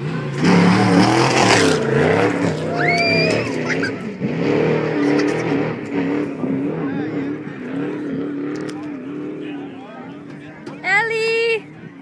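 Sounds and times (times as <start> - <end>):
race vehicle engine revving: 0.0 - 10.8.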